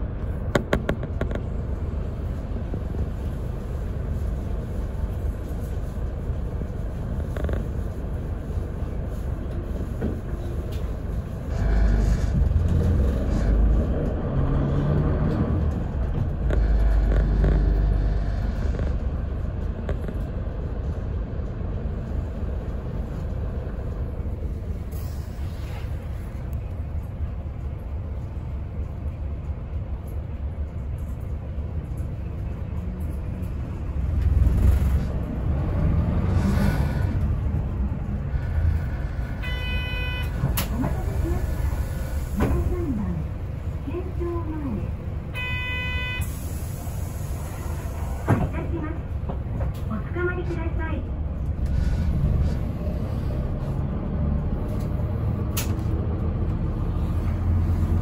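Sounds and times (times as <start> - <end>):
bus diesel engine rumbling: 0.0 - 58.0.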